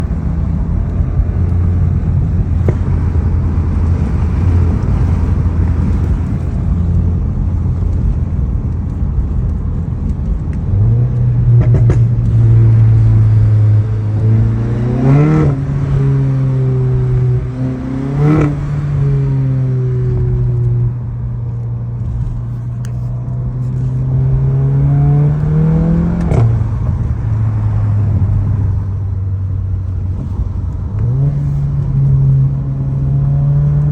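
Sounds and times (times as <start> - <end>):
exhaust crack: 0.0 - 33.1
car engine accelerating: 0.0 - 33.9.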